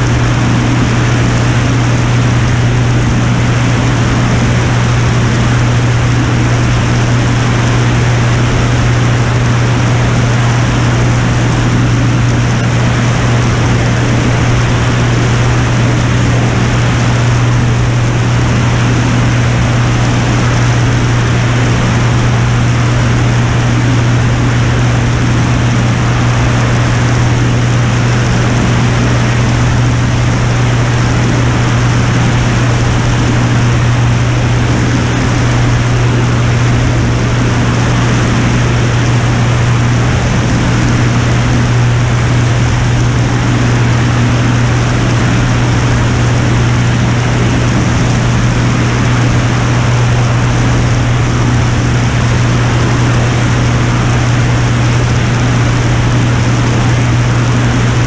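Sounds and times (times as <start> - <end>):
aircraft propeller engine drone: 0.0 - 58.0.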